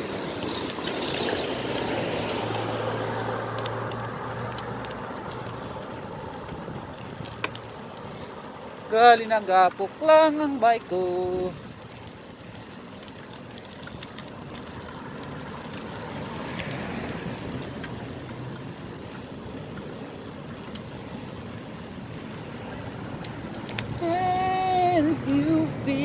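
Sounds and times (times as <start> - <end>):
traffic: 0.0 - 26.0
wind and road noise: 0.0 - 26.0.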